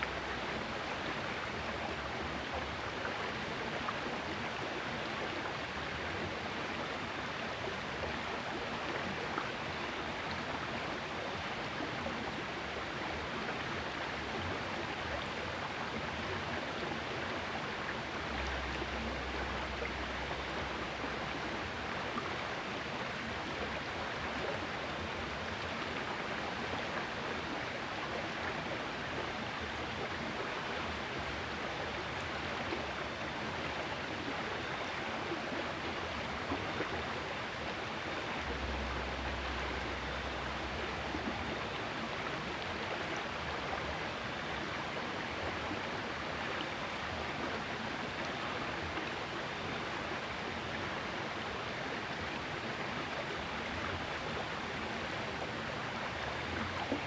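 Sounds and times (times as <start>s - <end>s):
small river flowing: 0.0s - 57.0s.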